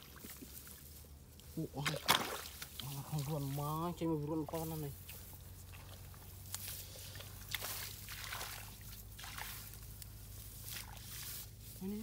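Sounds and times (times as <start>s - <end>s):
muddy water splashing and sloshing: 0.0s - 12.0s.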